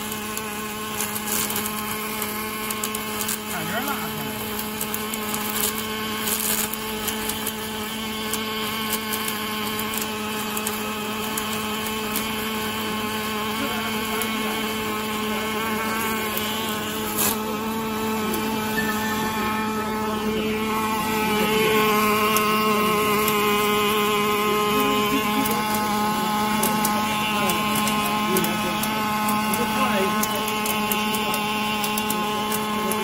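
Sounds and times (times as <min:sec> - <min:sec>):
welding arc crackles: 0:00.0 - 0:33.0
welding machine humming: 0:00.0 - 0:33.0.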